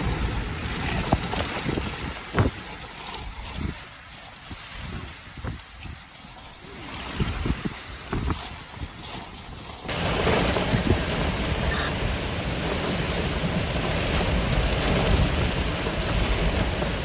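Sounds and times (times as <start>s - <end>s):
heavy rain downpour: 0.0s - 17.0s
wind rumbling on microphone: 0.0s - 17.0s.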